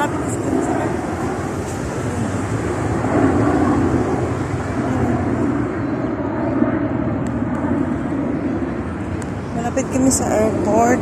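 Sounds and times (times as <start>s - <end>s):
airplane flying overhead: 0.0s - 11.0s.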